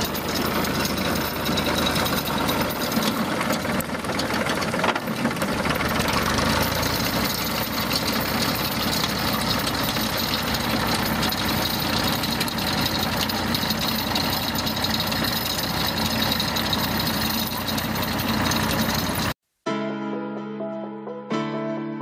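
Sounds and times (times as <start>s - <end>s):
tractor engine running: 0.0s - 19.4s.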